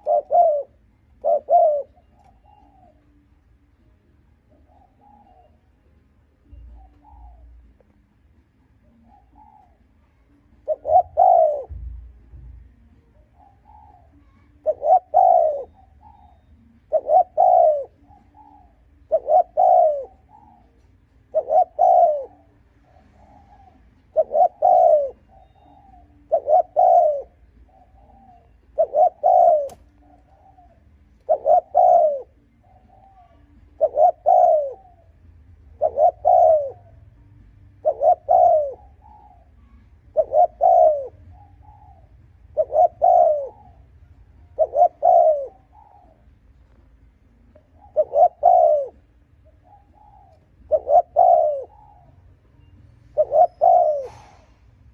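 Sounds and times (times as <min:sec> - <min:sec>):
dove cooing: 0:00.0 - 0:08.2, 0:08.8 - 0:54.9.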